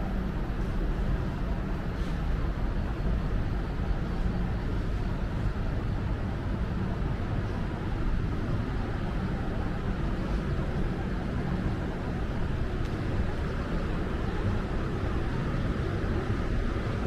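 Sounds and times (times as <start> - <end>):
city road traffic rumble: 0.0 - 17.0.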